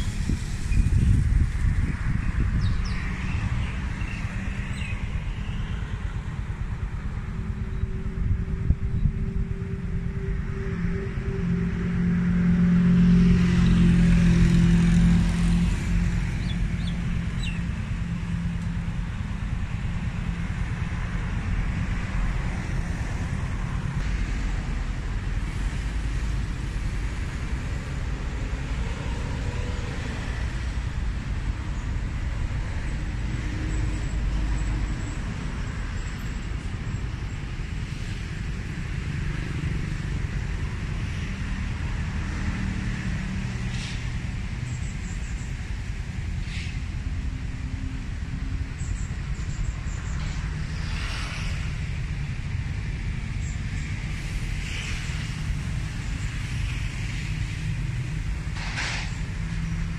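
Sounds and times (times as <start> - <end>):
low traffic rumble: 0.0 - 59.9
vehicle engine hum: 0.0 - 59.9.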